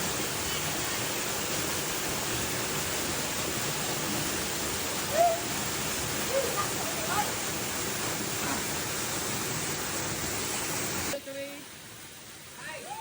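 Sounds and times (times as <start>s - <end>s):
waterfall rushing into a pool: 0.0s - 13.0s.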